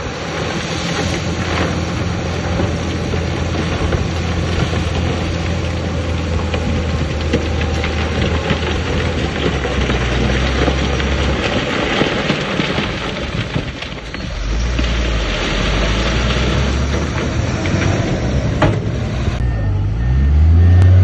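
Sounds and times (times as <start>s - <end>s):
crackling clatter: 0.0s - 19.4s
heavy diesel machine running: 0.0s - 21.0s.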